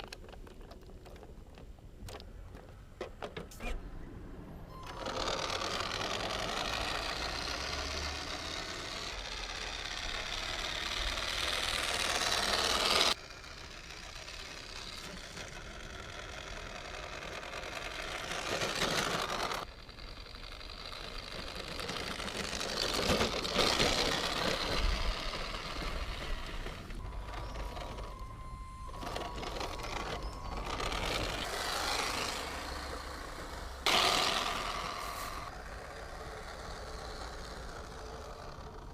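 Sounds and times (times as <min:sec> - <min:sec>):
toy truck electric motor whining: 0:04.7 - 0:38.9.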